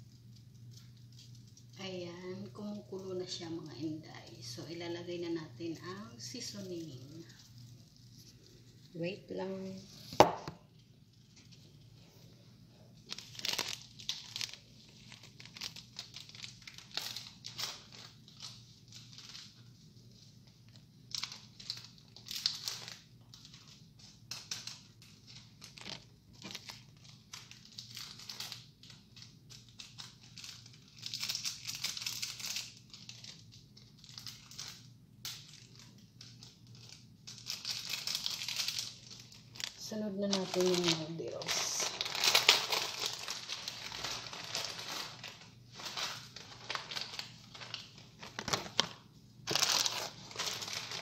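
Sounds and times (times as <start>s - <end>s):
low steady hum: 0.0s - 51.0s
plastic packets crinkling: 2.4s - 51.0s.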